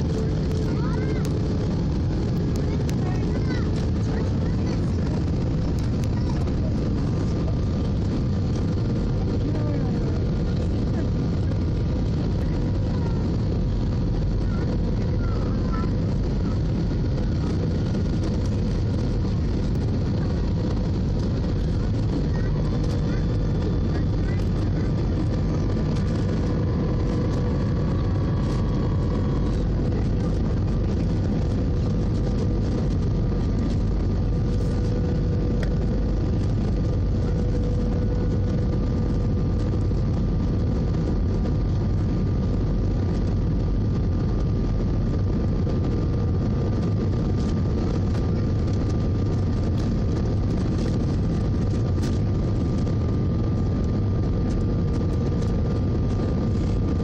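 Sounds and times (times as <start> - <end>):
faint steady hum: 0.0 - 57.0
jet engines rumbling: 0.0 - 57.0.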